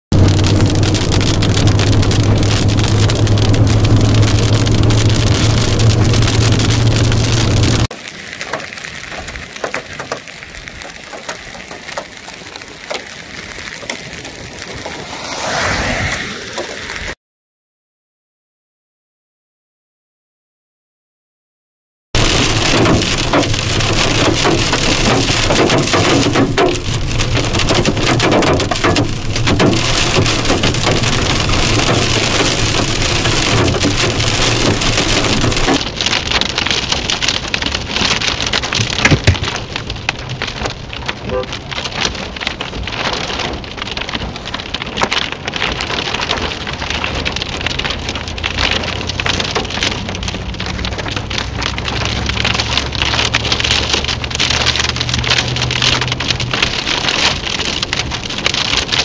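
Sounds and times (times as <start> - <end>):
hail and rain on car roof: 0.2 - 15.0, 22.2 - 59.0.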